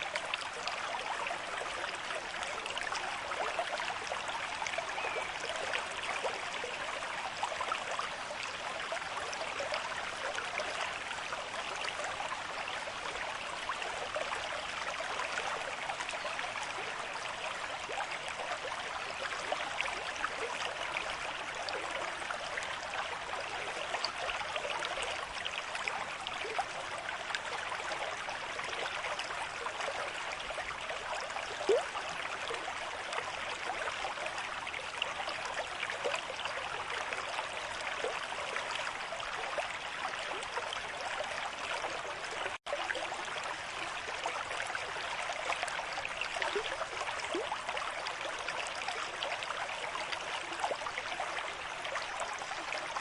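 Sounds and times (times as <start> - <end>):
river water rushing and babbling: 0.0 - 53.0.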